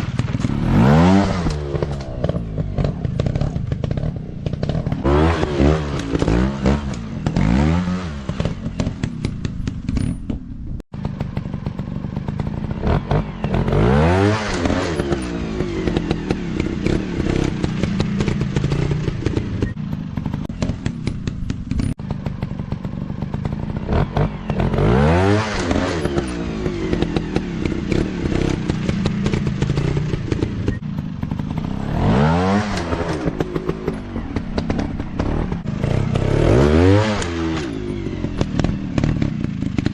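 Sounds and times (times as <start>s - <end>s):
dirt bike engines revving: 0.0s - 10.0s, 11.0s - 39.9s.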